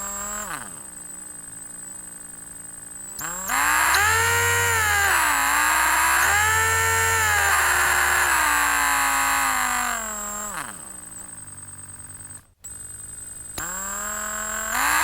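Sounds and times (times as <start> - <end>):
electric drill motor whine: 0.0 - 15.0.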